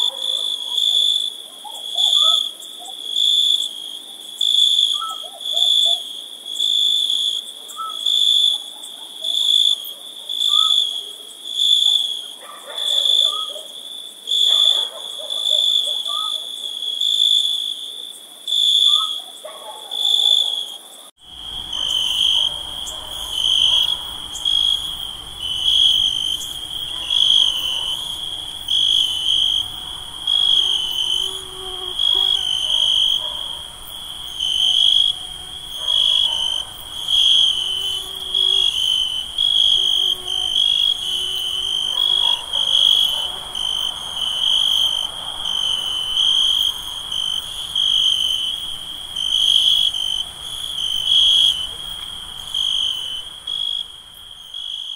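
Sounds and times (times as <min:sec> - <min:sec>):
crickets chirping: 0:00.0 - 0:54.9
high insect hum: 0:00.0 - 0:54.9.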